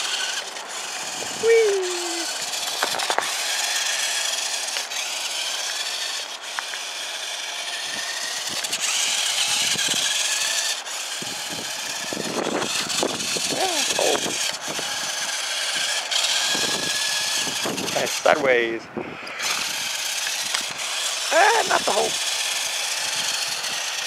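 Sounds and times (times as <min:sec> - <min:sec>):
toy truck motor whining: 0:00.0 - 0:24.0.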